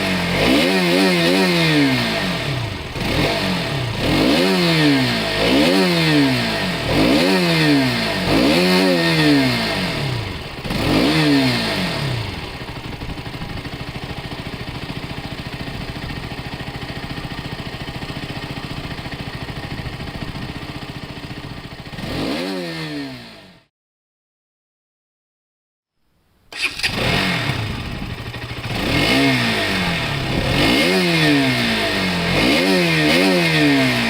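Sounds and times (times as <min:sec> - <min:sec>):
motorcycle engine revving and idling: 0:00.0 - 0:23.7, 0:26.6 - 0:34.0.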